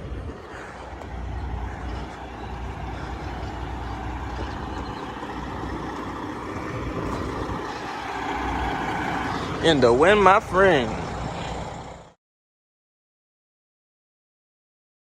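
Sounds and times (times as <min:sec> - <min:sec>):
diesel truck engine rumbling: 0:00.0 - 0:12.2.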